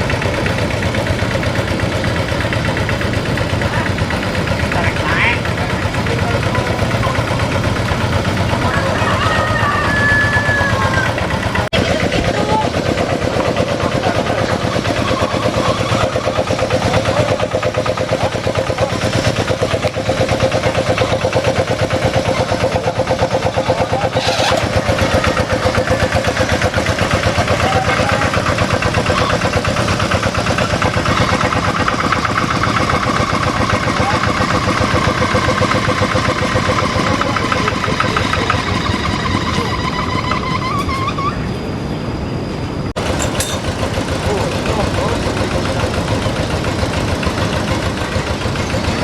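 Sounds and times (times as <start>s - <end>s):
tractor diesel engine chugging: 0.0s - 49.0s.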